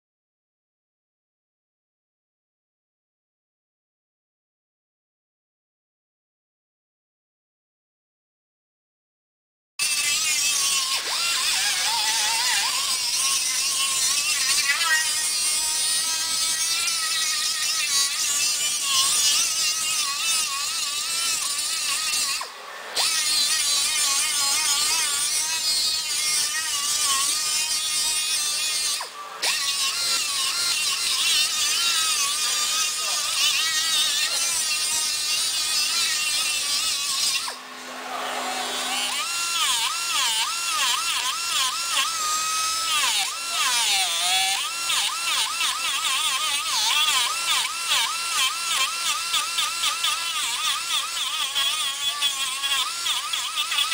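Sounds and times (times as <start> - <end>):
power tool whining on metal: 9.8 - 53.9.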